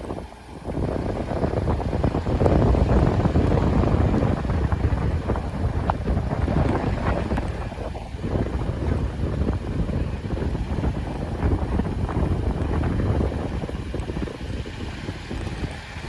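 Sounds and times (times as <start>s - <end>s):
low uneven rumble: 0.0s - 16.0s
wind buffeting microphone: 0.0s - 16.0s.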